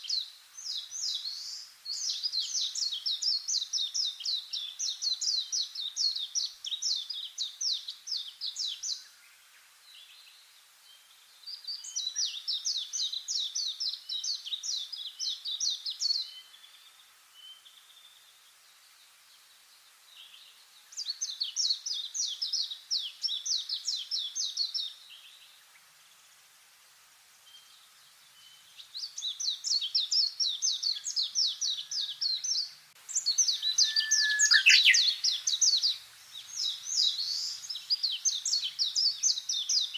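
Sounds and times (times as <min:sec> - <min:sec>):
faint bird chirps: 0:00.0 - 0:26.2, 0:27.4 - 0:39.9
songbird singing: 0:00.0 - 0:39.9.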